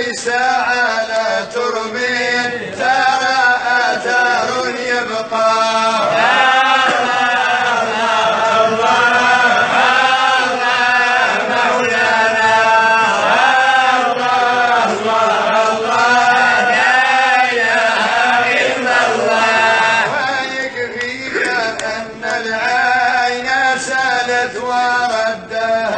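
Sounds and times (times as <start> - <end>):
person chanting: 0.0 - 25.9.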